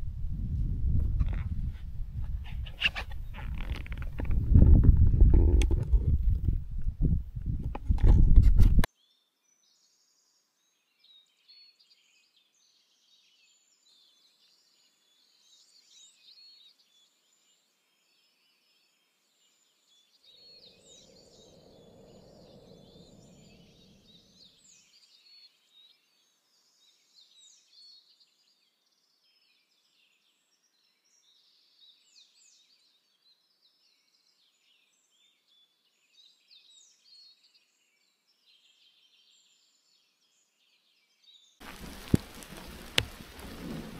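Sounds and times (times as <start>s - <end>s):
faint songbird chorus: 0.6s - 6.2s, 8.8s - 43.9s.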